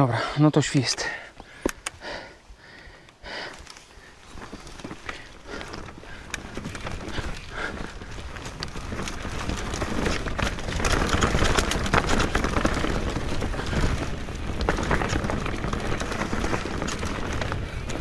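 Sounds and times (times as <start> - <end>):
bike rattling: 0.8 - 18.0
tyres crunching over dirt: 3.5 - 18.0.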